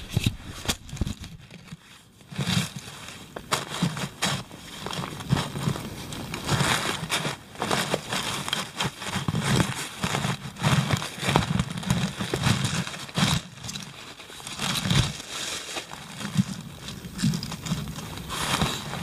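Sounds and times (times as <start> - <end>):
shovel crunching soil: 0.0 - 19.0.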